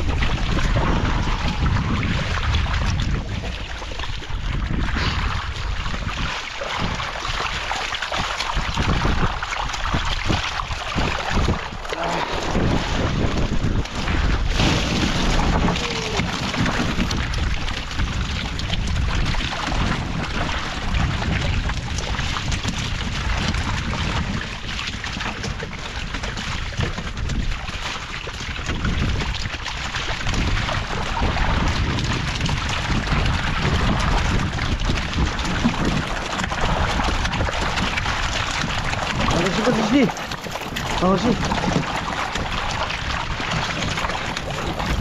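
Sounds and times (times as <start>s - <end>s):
water splashing and sloshing: 0.0s - 45.0s
wet net hauled over metal boat: 0.0s - 45.0s
wind buffeting microphone: 0.0s - 45.0s.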